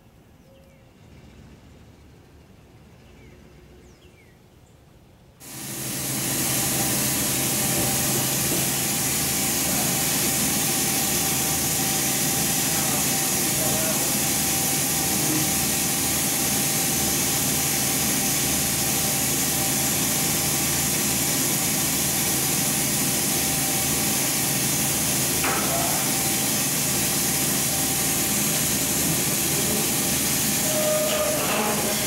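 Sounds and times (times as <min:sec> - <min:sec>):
media-blasting hose hissing: 0:05.4 - 0:32.0.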